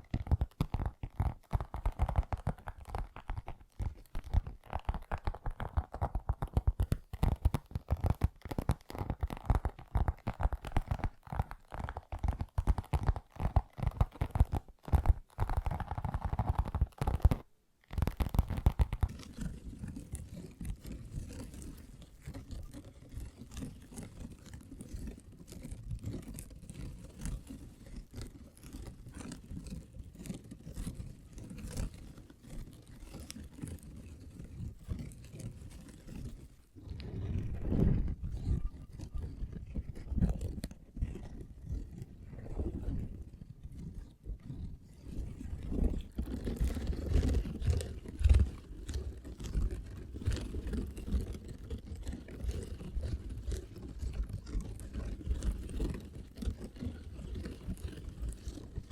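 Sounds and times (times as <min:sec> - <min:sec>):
fingertips tapping on a bag: 0:00.0 - 0:42.1, 0:45.4 - 0:58.9
fingers scratching a bag: 0:00.0 - 0:58.9.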